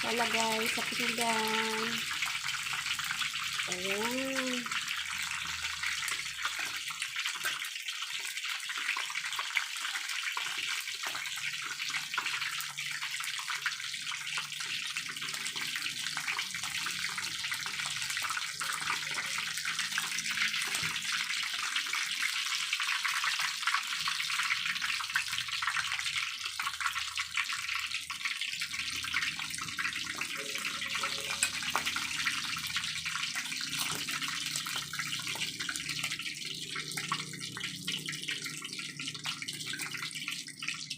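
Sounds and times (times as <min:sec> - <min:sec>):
chicken deep-frying in hot oil: 0:00.0 - 0:40.9.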